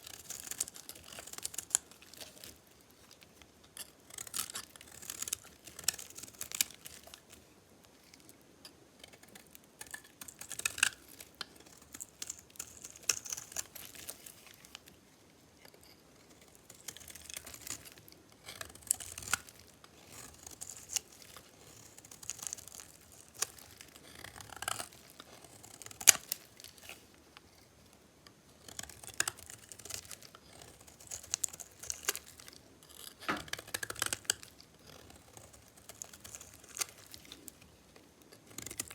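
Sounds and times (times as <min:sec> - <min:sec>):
knife scraping soap: 0:00.0 - 0:07.5, 0:08.1 - 0:15.0, 0:15.6 - 0:27.8, 0:28.6 - 0:38.9.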